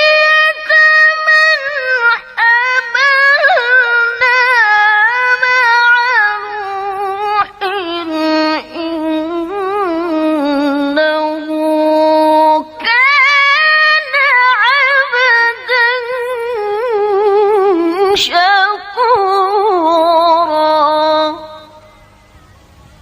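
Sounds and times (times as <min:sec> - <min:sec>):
woman reciting melodically: 0:00.0 - 0:22.2.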